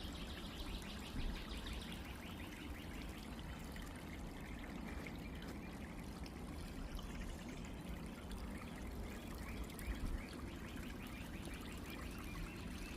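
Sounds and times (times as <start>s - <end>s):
water trickling and splashing: 0.0s - 12.9s.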